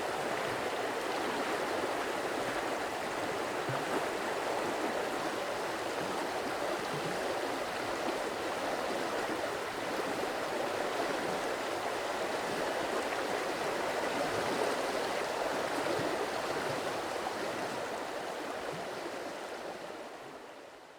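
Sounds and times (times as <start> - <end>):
stream of water running: 0.0 - 20.0.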